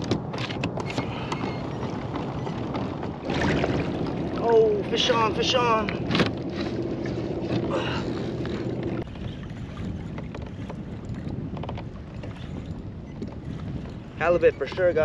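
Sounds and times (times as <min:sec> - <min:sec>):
water around kayak: 0:00.0 - 0:15.0
wind on microphone: 0:00.0 - 0:15.0.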